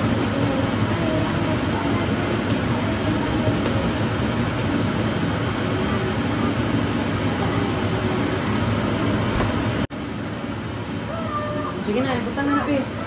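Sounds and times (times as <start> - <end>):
faint hum: 0.0 - 13.0
running machine noise: 0.0 - 13.0.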